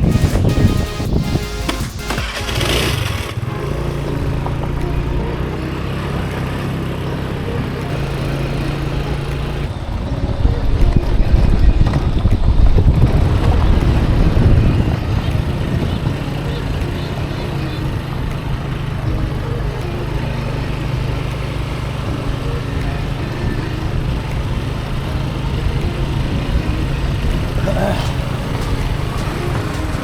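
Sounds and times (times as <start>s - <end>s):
motorbike engine running: 0.0s - 30.0s.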